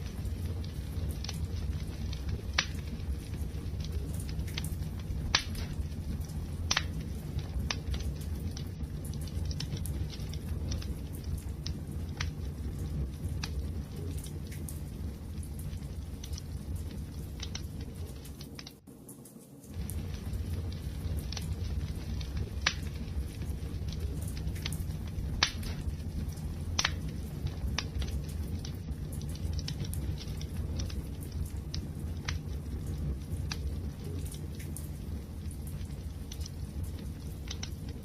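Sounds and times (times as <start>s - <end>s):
fire crackling and popping: 0.0s - 38.0s
low rumble of flames: 0.0s - 38.0s.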